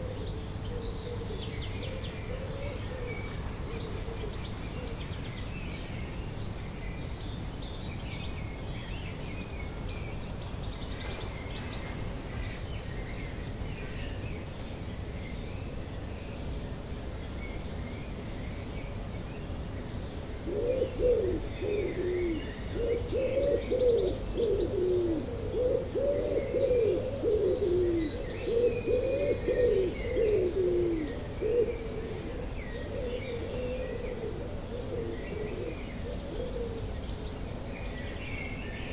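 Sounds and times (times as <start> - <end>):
songbirds singing faintly: 0.0 - 38.9.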